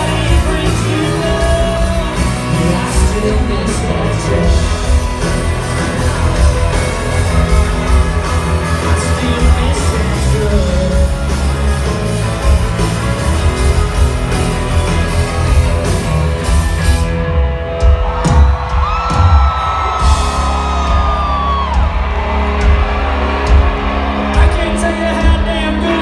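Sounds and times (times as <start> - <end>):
live country-rock band: 0.0 - 26.0.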